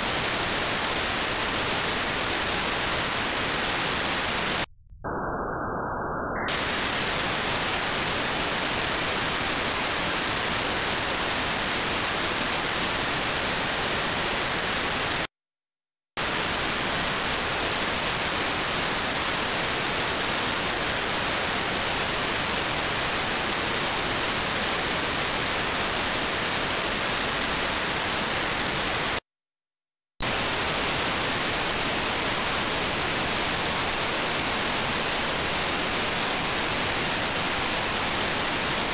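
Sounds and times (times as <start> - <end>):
radio static hiss: 0.0 - 15.3, 16.2 - 29.2, 30.2 - 38.9.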